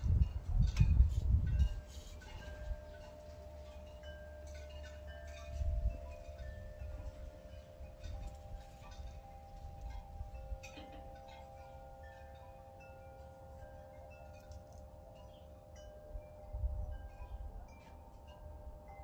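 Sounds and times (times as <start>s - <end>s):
wind chimes ringing: 0.0s - 19.0s.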